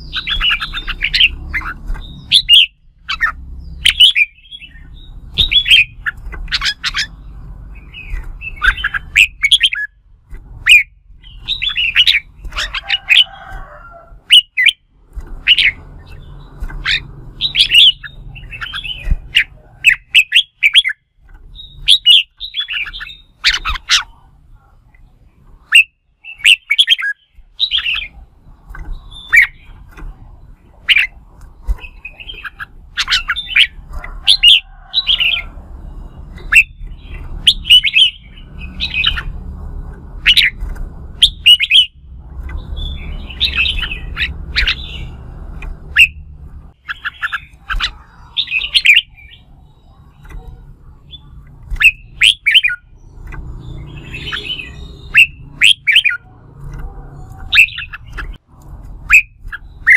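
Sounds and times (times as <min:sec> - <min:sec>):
birds singing chirps and whistles: 0:00.0 - 0:59.9.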